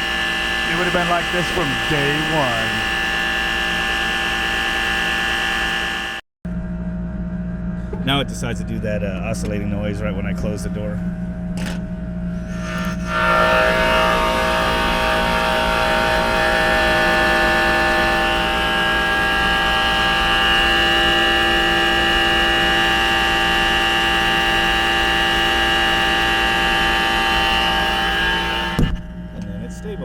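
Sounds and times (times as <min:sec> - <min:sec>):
compressor whining hum: 0:00.0 - 0:30.0.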